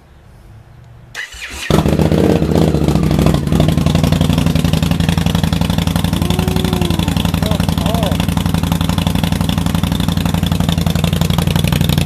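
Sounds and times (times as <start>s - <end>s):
motorcycle engine cranking: 1.2s - 12.0s
motorcycle engine idling loudly: 1.7s - 12.0s.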